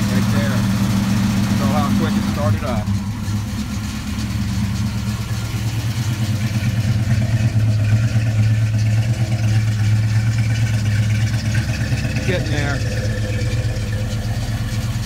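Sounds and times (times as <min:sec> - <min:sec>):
v-eight engine idling: 0:00.0 - 0:15.0.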